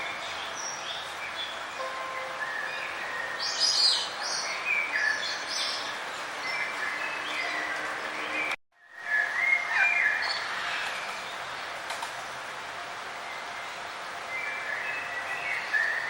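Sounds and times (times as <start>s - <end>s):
outdoor background hiss: 0.0s - 16.0s
songbirds chirping and trilling: 0.0s - 16.0s.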